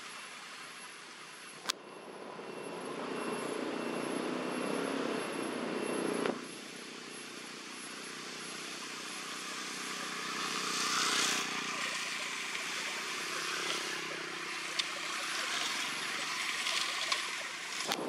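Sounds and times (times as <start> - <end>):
distant engine drone: 0.0 - 18.0.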